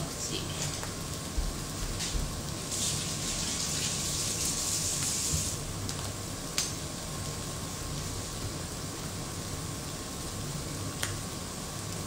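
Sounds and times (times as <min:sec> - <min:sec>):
pancake sizzling in oil: 0:00.0 - 0:12.0.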